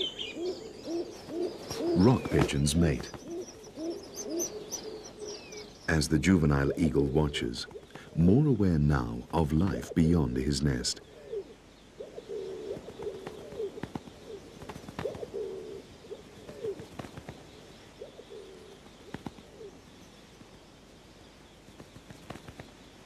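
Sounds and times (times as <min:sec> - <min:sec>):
pigeons cooing: 0:00.0 - 0:20.2.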